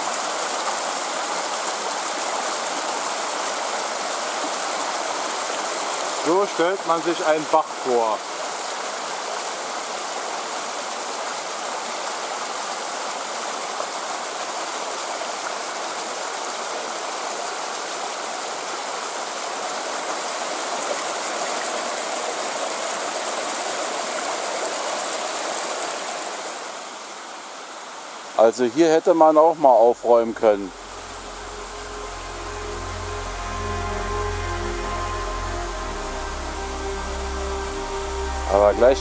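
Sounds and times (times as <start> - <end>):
stream rushing over stones: 0.0 - 39.0.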